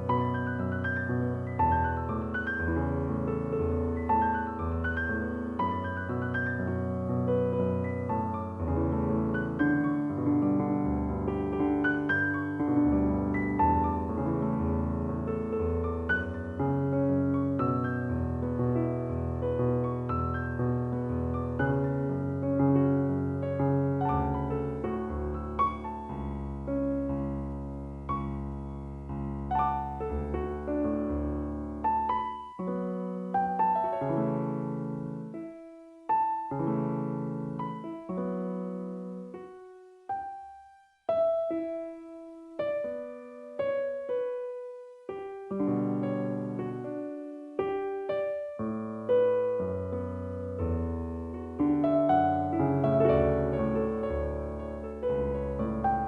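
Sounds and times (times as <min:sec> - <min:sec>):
slow solo piano music: 0:00.0 - 0:56.0.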